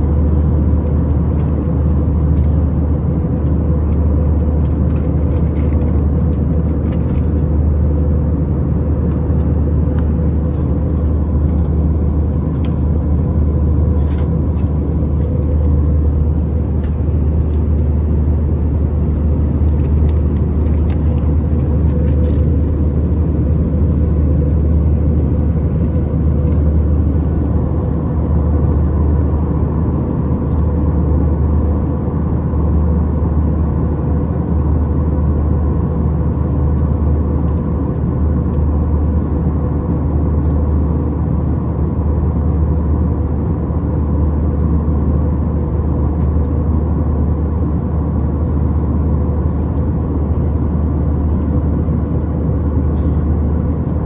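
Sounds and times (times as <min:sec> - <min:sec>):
faint hum: 0:00.0 - 0:54.0
jet cabin engine rumble: 0:00.0 - 0:54.0.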